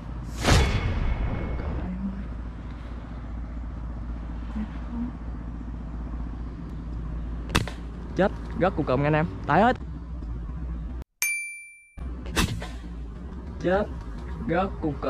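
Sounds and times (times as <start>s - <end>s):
low outdoor rumble: 0.0s - 11.0s, 12.0s - 15.0s.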